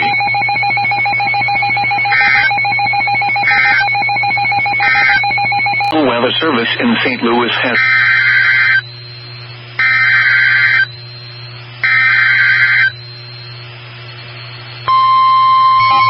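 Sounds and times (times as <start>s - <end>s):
buzzy digital data tones: 0.0s - 16.0s
steady warning alarm tone: 0.0s - 16.0s.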